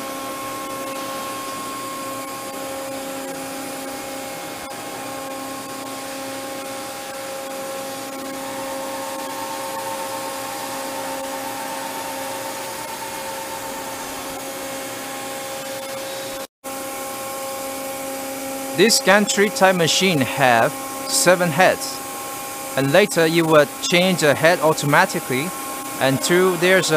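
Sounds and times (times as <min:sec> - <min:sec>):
machining center humming: 0:00.0 - 0:26.9.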